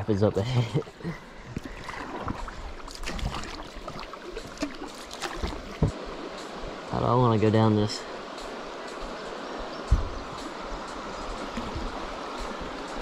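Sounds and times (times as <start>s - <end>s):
river rapids rushing: 1.9s - 13.0s.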